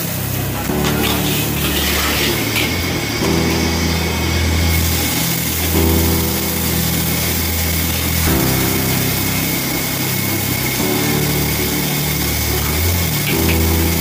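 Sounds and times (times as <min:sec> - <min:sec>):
gas burner and blower drone: 0:00.0 - 0:14.0.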